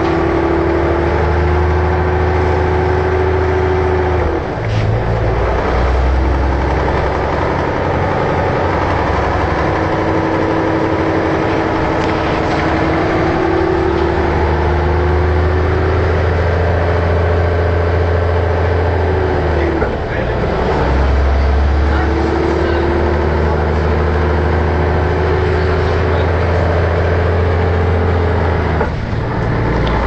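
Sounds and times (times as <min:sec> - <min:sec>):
diesel bus engine running: 0:00.0 - 0:30.0.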